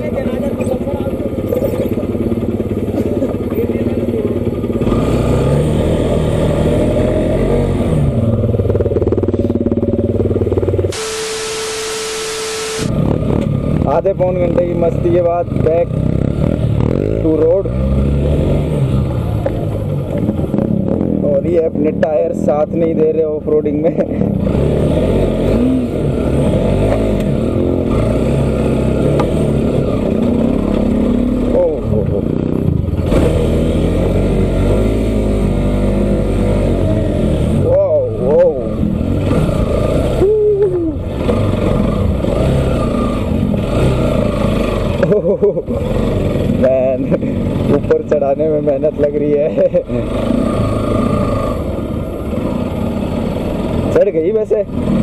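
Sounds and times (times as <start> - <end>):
motorcycle engine running: 0.0 - 23.0, 23.9 - 55.0.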